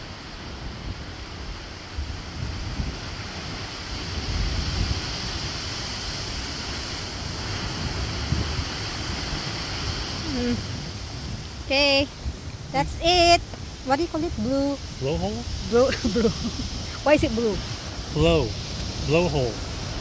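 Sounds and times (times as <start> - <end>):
deep rumble of surf: 0.0 - 20.0
ocean surf surging and rushing: 0.0 - 20.0.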